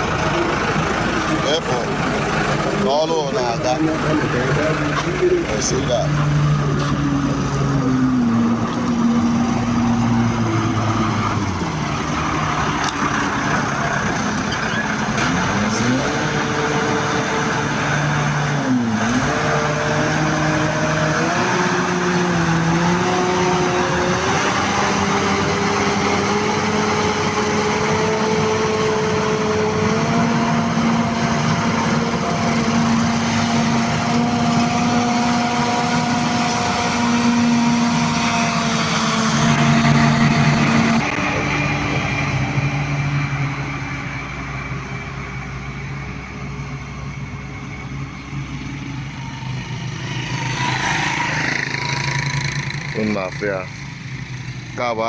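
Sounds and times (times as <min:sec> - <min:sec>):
road noise: 0:00.0 - 0:55.0
vehicle engine running: 0:00.0 - 0:55.0.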